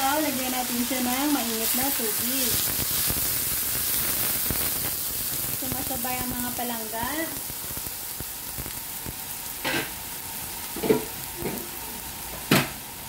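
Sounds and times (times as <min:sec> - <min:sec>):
broth bubbling and sizzling in pan: 0:00.0 - 0:13.0.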